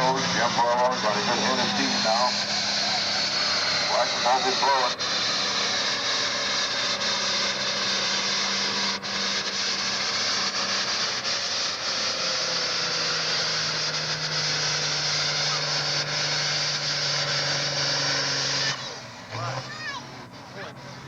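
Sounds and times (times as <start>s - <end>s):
tractor diesel engine at full throttle: 0.0s - 21.0s.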